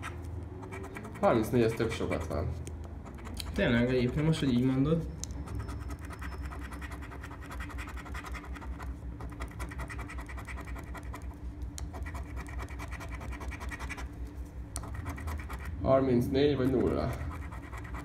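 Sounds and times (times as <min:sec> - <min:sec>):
coin scraping scratch card: 0:00.0 - 0:02.4, 0:03.0 - 0:11.3, 0:11.9 - 0:14.1, 0:14.8 - 0:15.8, 0:16.6 - 0:18.0.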